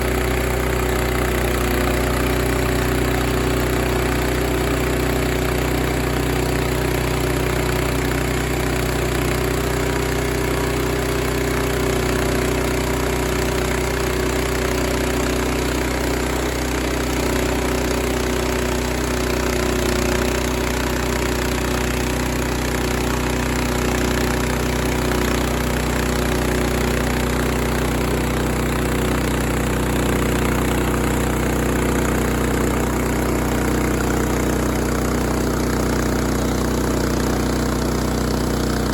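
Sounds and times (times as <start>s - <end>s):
small gasoline engine running: 0.0s - 38.9s.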